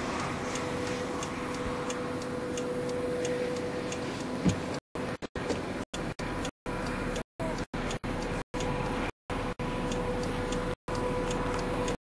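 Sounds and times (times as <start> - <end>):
flasher relay ticking: 0.0 - 12.0
hum and rushing inside car: 0.0 - 12.0.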